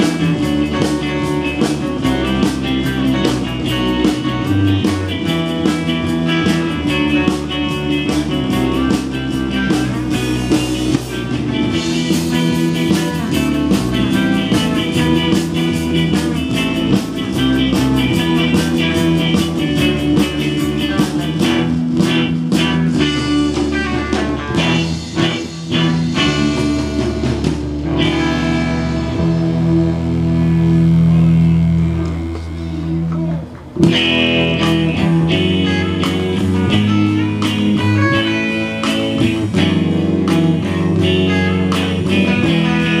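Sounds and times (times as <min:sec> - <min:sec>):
bass guitar: 0:00.0 - 0:43.0
drum kit: 0:00.0 - 0:43.0
electric guitars: 0:00.0 - 0:43.0.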